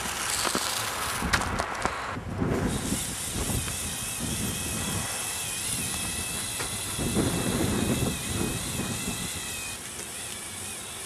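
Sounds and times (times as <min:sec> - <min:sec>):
toy electric motors whining: 0:00.0 - 0:11.0.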